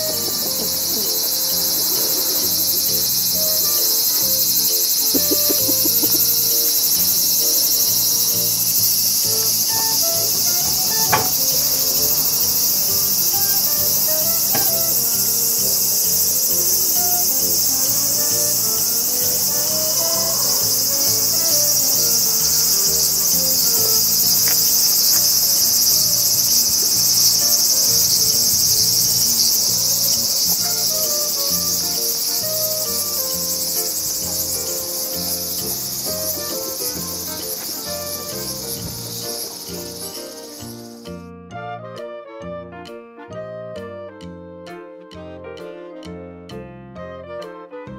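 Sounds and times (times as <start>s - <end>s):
cicada chorus buzzing: 0.0s - 41.3s.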